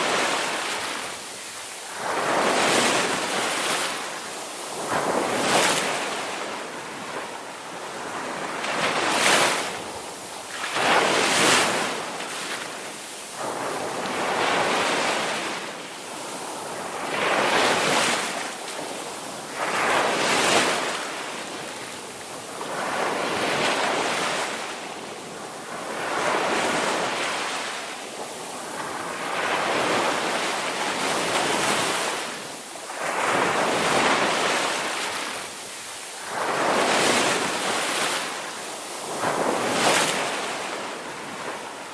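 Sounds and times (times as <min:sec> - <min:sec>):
wind: 0:00.0 - 0:41.9.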